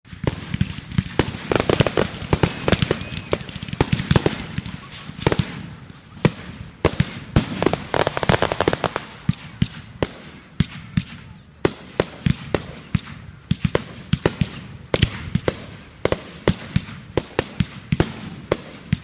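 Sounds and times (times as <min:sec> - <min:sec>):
fireworks bangs and crackles: 0:00.0 - 0:19.0
rumble of fireworks bursts: 0:00.0 - 0:19.0.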